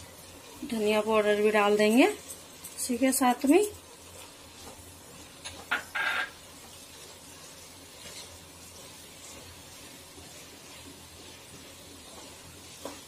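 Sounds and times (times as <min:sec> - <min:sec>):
spatula stirring: 0:00.0 - 0:13.0
vegetables sizzling in a pot: 0:00.0 - 0:13.0.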